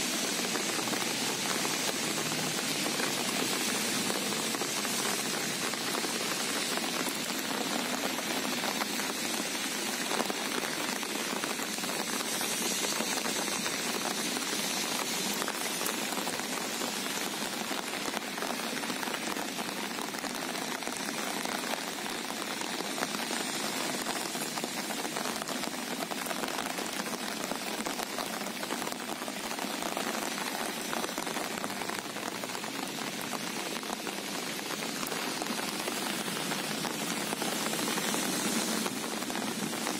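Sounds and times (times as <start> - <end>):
rain falling on sea water: 0.0 - 39.9.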